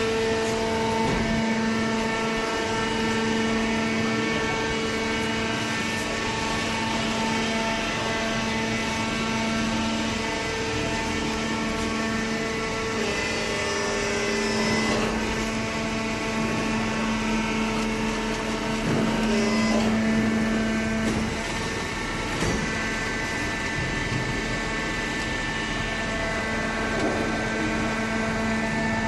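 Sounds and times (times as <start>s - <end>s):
hydraulic baler humming and whining: 0.0s - 29.0s.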